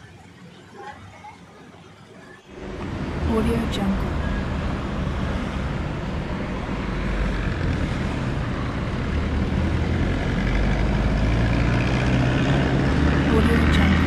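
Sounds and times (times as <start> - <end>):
engine hum in traffic: 2.5 - 14.0.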